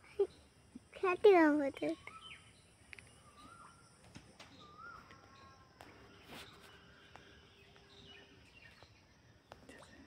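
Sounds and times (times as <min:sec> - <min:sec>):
bird chirps: 0:01.7 - 0:10.0.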